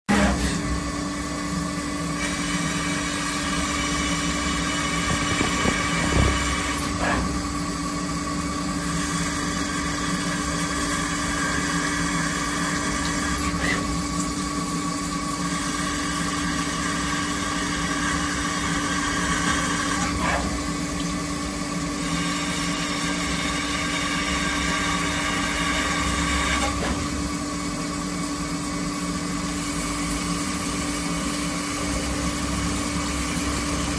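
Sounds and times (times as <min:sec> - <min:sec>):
milling machine hum: 0:00.2 - 0:33.9
end mill cutting metal: 0:02.2 - 0:14.0, 0:15.3 - 0:26.8, 0:29.2 - 0:33.9.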